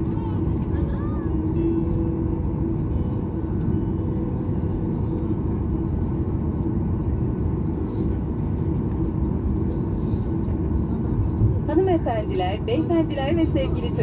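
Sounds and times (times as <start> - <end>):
jet engines and wheels rumbling: 0.0 - 14.0
steady low hum: 0.0 - 14.0.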